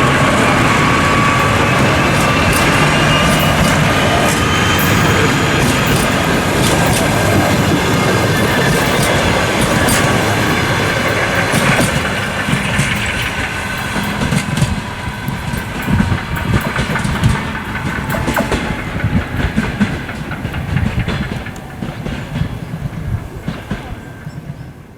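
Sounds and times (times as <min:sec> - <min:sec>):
train wheels clacking over rail joints: 0:00.0 - 0:24.9.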